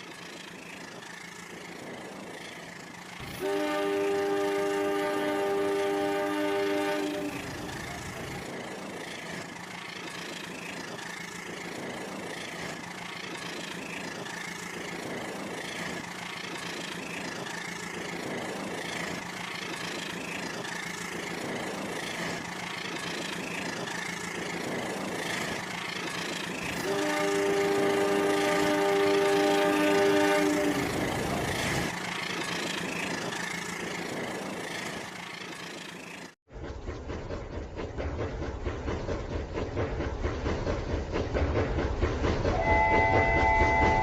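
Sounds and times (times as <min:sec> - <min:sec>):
toy train motor hum: 0:00.0 - 0:36.4.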